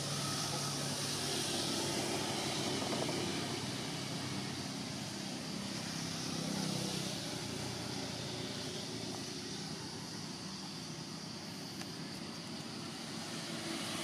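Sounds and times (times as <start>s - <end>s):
distant traffic rumble: 0.0s - 14.0s
high hiss: 0.0s - 14.0s.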